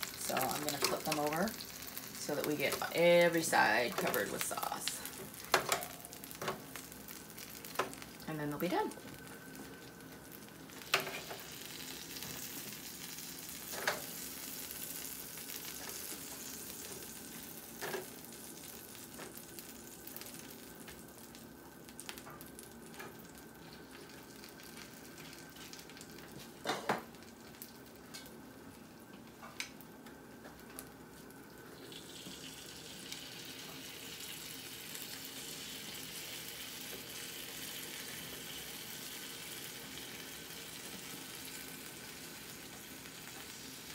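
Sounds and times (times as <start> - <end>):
meat sizzling in oven: 0.0 - 43.9.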